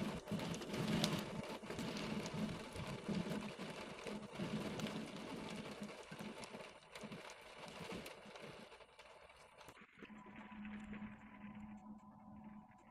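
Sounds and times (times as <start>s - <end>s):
rain pattering: 0.0s - 12.9s.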